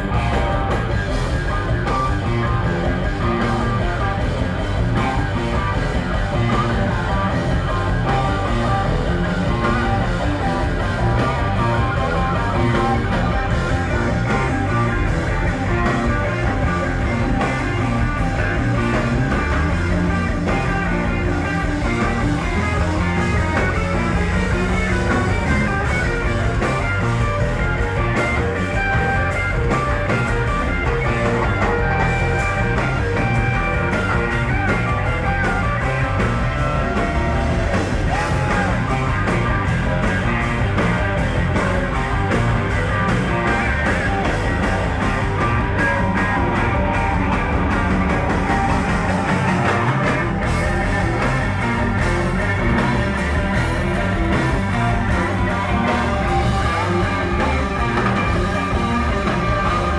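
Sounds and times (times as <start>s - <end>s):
electric guitar lead lines: 0.0s - 59.9s
rock band playing live: 0.0s - 59.9s.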